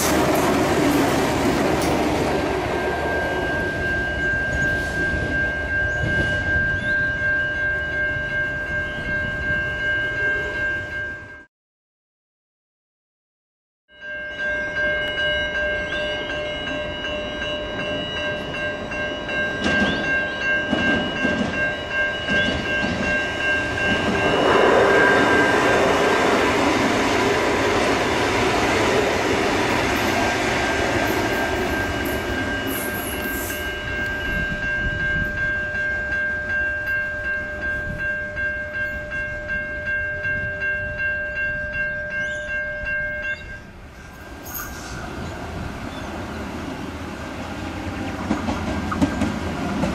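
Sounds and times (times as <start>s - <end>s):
train running on rails: 0.0s - 11.5s, 13.9s - 49.9s
steady high ringing tones: 2.3s - 11.5s, 13.9s - 46.1s.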